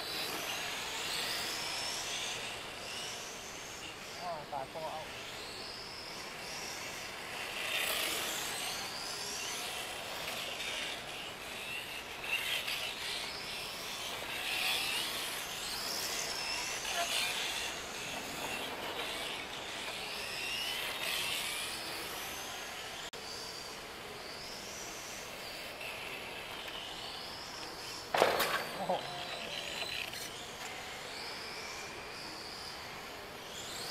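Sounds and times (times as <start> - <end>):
rc car motor whining: 0.0 - 33.9.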